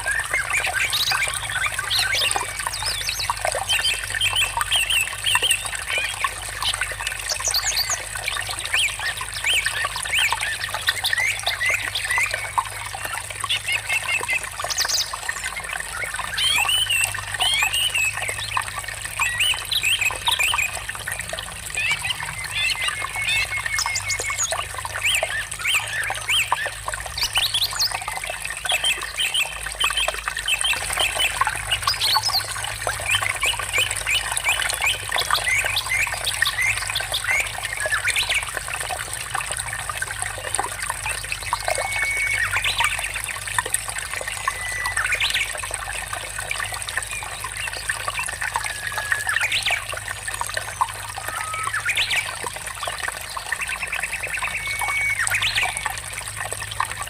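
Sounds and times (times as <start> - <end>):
birds singing: 0.0 - 38.7, 40.4 - 56.2
water trickling and splashing: 0.0 - 57.0.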